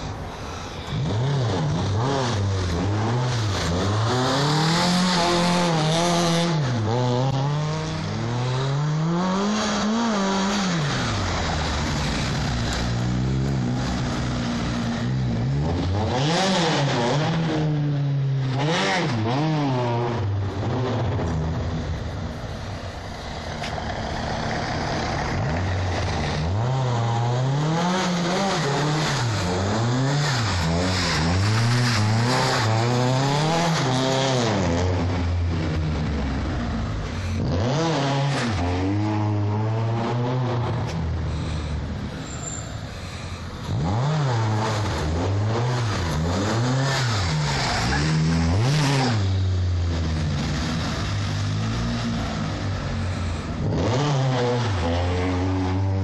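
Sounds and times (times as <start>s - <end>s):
car engine revving hard: 0.5s - 21.7s, 24.0s - 42.1s, 43.0s - 56.0s.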